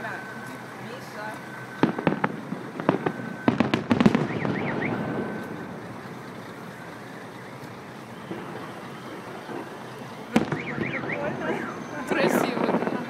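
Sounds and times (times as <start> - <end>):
firework crackling: 0.7 - 13.0.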